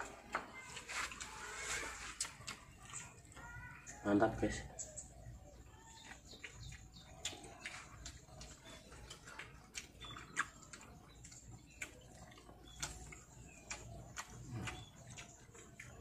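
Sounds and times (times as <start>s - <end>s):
people chewing food: 0.0s - 16.0s.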